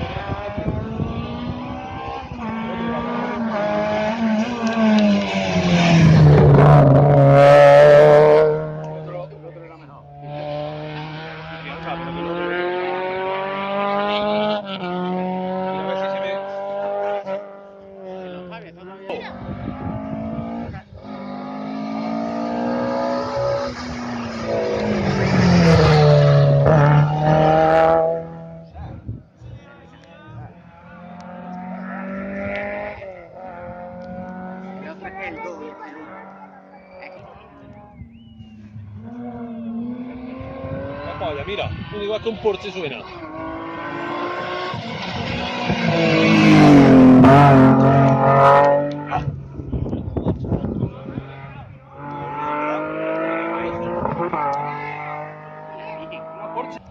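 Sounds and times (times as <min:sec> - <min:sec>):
rally car engine approaching: 0:00.0 - 0:56.9.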